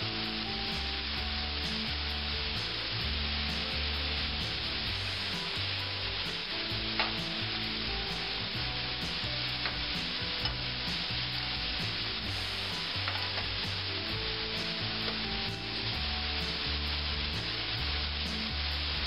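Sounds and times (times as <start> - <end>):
mushrooms sizzling in a skillet: 0.0 - 19.0.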